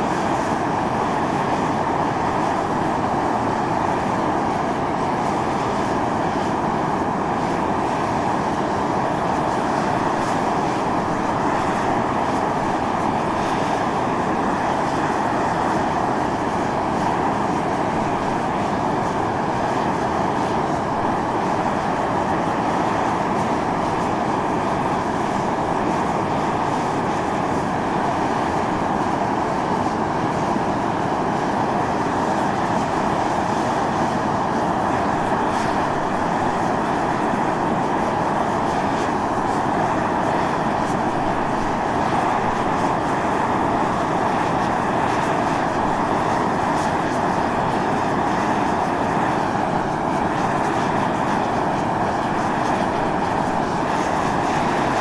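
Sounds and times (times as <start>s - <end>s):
steam vent hissing roar: 0.0s - 55.0s.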